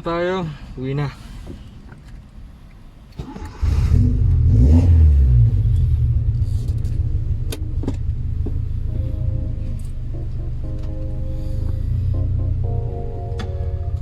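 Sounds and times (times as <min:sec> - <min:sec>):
car engine starting and idling: 0:00.6 - 0:14.0.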